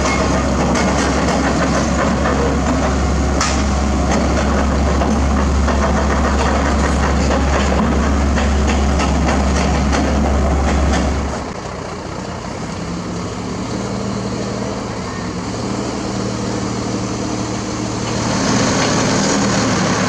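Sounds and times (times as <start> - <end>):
heavy diesel engine humming: 0.0 - 20.0.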